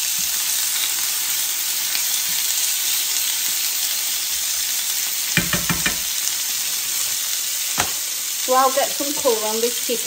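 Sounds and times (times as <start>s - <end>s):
chicken sizzling in a frying pan: 0.0s - 10.0s.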